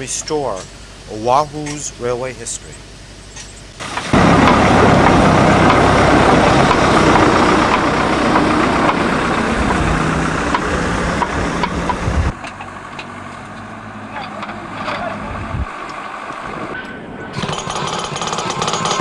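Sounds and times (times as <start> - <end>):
backhoe loader engine running: 3.5 - 19.0.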